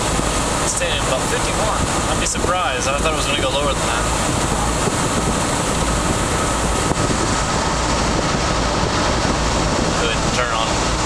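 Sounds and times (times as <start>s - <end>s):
air conditioning blower: 0.0s - 11.0s
road wind and engine noise: 0.0s - 11.0s.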